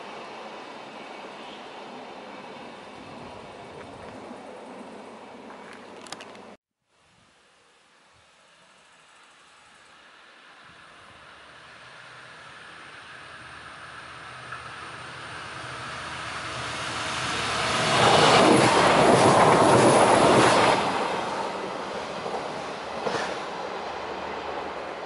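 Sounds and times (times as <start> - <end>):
train passing on rails: 0.0 - 6.6, 8.4 - 25.0.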